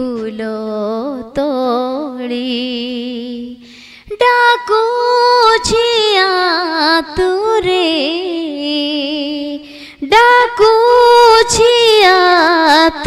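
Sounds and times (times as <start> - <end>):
woman singing a hymn: 0.0 - 13.0.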